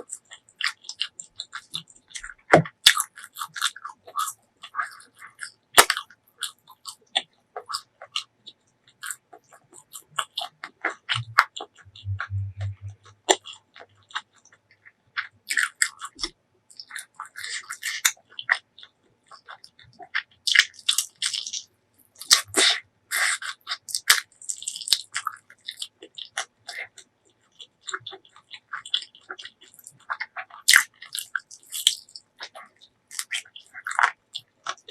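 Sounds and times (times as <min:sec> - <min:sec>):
chewing and crunching food: 0:00.0 - 0:34.9.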